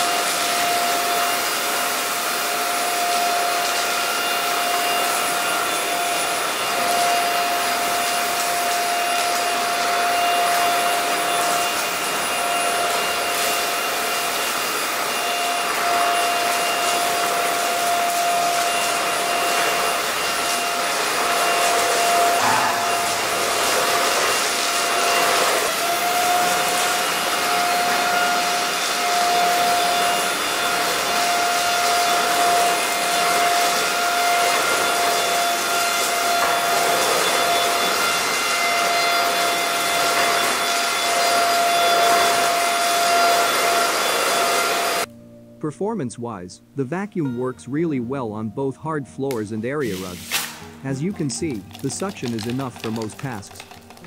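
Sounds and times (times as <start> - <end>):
stick vacuum running on tile floor: 0.0 - 45.1, 50.5 - 54.0.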